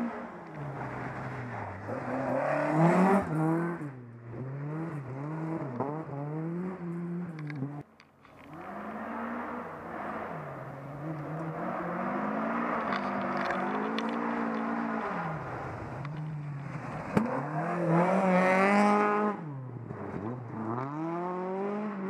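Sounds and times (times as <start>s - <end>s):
distant rally car engine revving: 0.0s - 22.0s.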